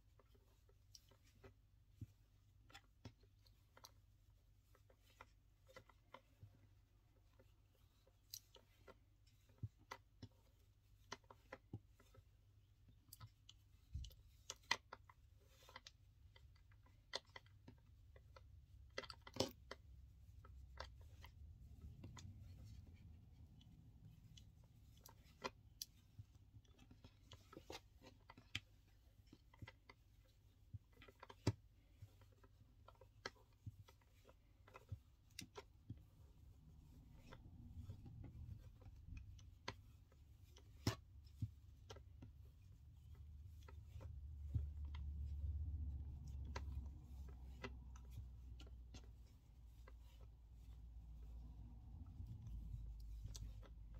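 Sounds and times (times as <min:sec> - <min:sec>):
clicks and rubbing of cord: 0:00.0 - 0:53.9
low steady hum: 0:00.0 - 0:53.9.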